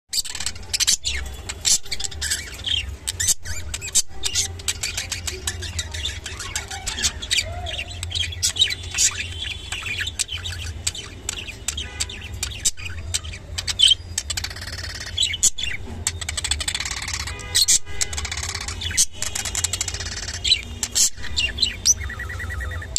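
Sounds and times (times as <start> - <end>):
budgerigars chirping and chattering: 0.1 - 22.9.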